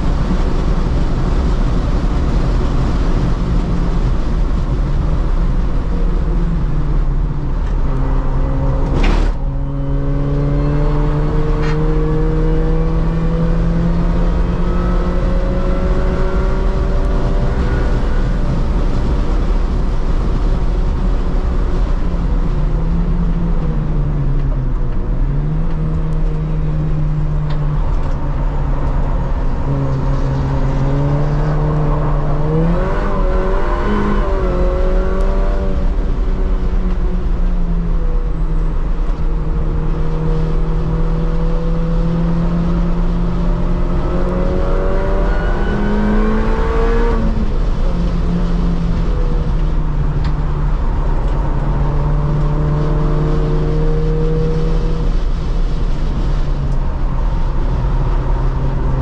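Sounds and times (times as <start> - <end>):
car engine driven hard: 0.0 - 59.0
road and wind rumble: 0.0 - 59.0.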